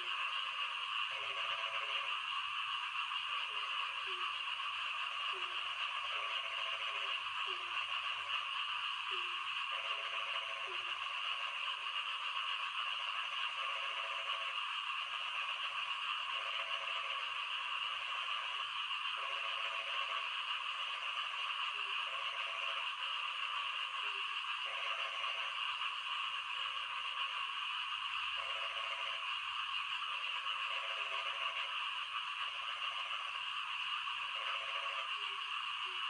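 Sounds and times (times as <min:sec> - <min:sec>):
frogs croaking: 0:00.0 - 0:36.0.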